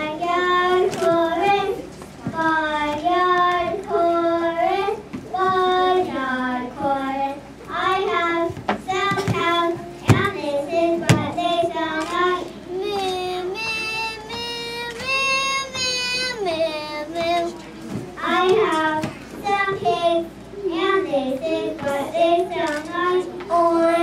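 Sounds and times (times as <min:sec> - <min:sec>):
child singing into a microphone: 0:00.0 - 0:24.0.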